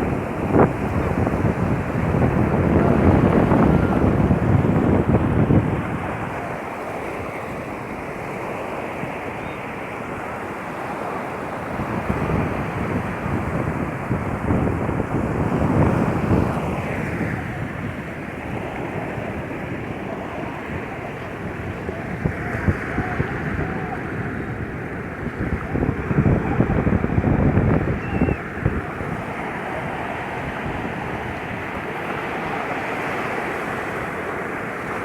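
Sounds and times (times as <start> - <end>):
sea waves washing onto beach: 0.0 - 35.0
wind buffeting microphone: 0.0 - 35.0.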